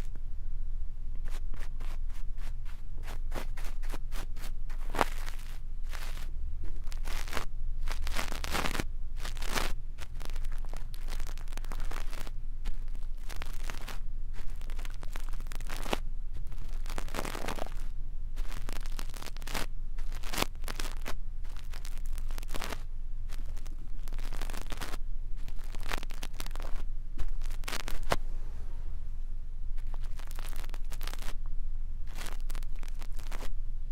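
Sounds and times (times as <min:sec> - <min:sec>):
faint low hum: 0:00.0 - 0:33.9
brush bristles scratching microphone: 0:01.2 - 0:28.2, 0:29.8 - 0:31.4, 0:32.0 - 0:33.5.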